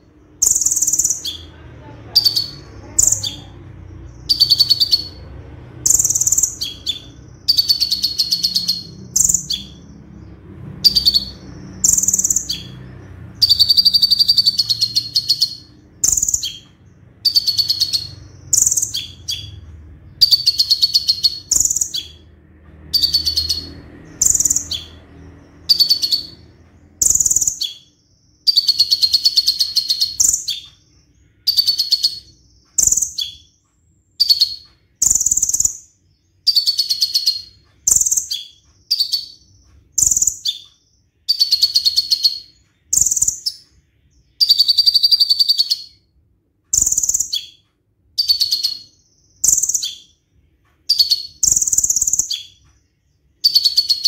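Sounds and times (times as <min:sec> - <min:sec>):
bird singing rattling trills: 0:00.0 - 0:46.1, 0:46.7 - 0:54.0.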